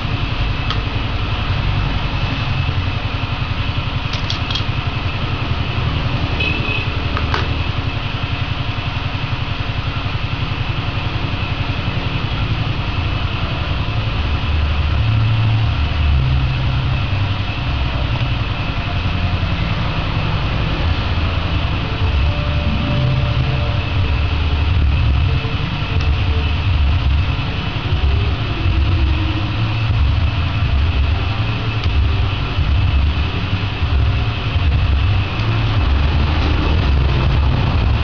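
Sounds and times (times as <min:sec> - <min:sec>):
low mechanical rumble: 0:00.0 - 0:38.0.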